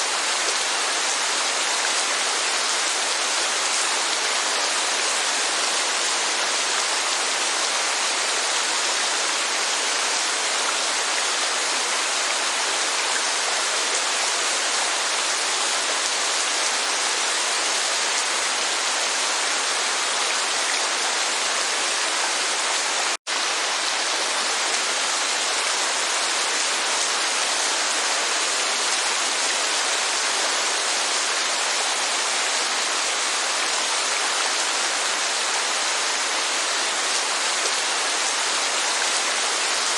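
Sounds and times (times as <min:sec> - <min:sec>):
steady rain: 0:00.0 - 0:39.9
waterfall: 0:00.0 - 0:39.9.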